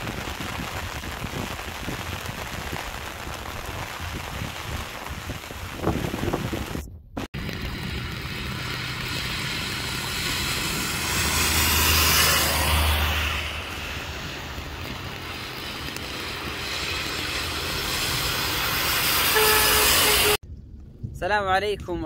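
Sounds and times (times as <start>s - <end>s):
steady rain: 0.0s - 20.4s
tyre spray on wet road: 0.0s - 20.4s
truck engine rumble: 0.0s - 21.2s.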